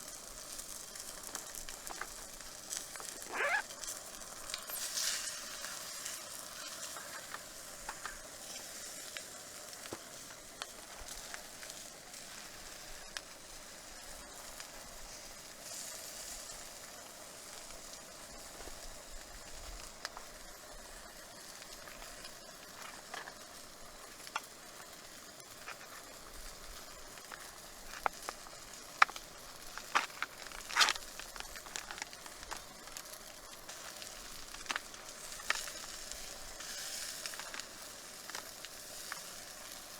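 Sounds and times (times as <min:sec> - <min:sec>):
campfire crackles and pops: 0:00.0 - 0:39.9
campfire sizzling hiss: 0:00.0 - 0:39.9.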